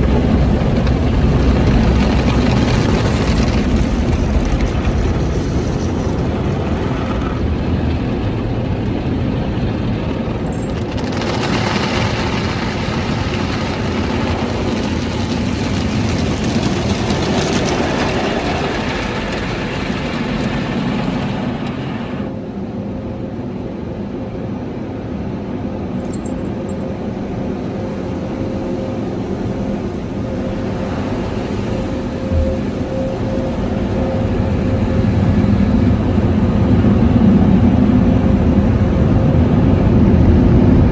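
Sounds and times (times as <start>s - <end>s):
car wash mechanical rumble: 0.0s - 40.9s.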